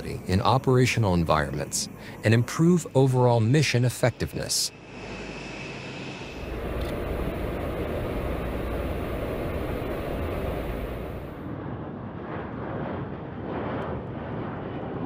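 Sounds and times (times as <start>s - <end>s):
jet aircraft in flight: 0.0s - 15.0s.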